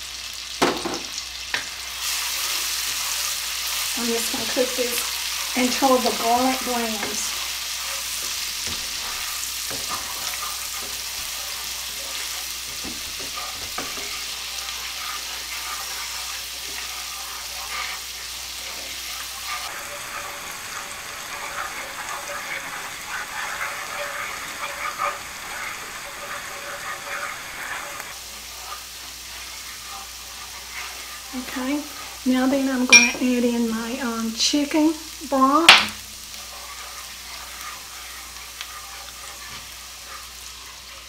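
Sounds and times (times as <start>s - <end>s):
garlic sizzling in butter: 0.0s - 41.0s
wooden spatula scraping a pan: 0.3s - 41.0s.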